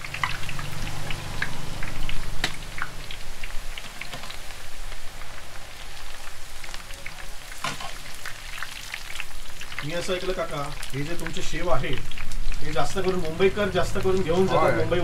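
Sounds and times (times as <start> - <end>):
noodles deep-frying in oil: 0.0 - 15.0.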